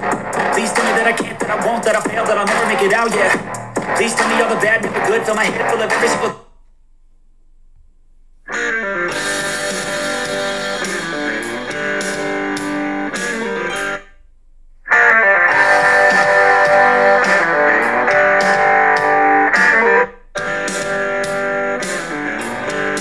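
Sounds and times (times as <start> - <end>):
rock song from tablet speakers: 0.0 - 6.4, 8.5 - 14.0, 14.9 - 23.0.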